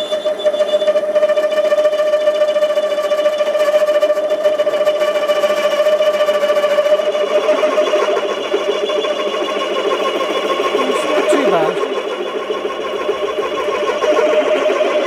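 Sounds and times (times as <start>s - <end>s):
lathe drilling whine: 0.0s - 15.0s.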